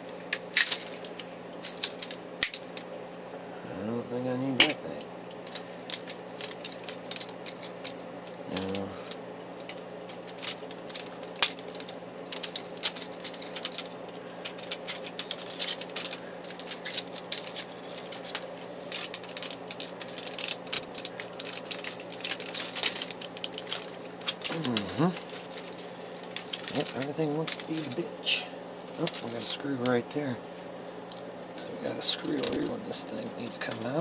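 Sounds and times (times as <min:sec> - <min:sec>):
steady low hum: 0:00.0 - 0:34.0
printer parts clicking and rattling: 0:00.1 - 0:02.9, 0:04.5 - 0:08.0, 0:08.6 - 0:28.4, 0:29.0 - 0:30.2, 0:31.1 - 0:34.0.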